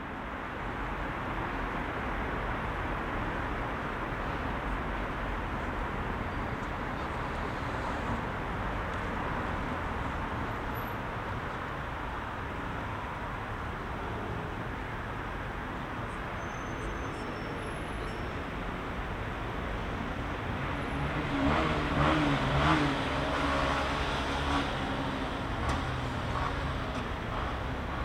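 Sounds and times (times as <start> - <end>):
dense road traffic: 0.0 - 28.0.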